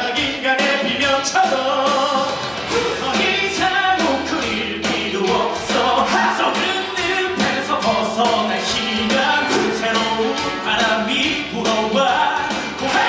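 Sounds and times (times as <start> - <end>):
cast singing rock song: 0.0 - 13.0
drums steady beat: 0.0 - 13.0.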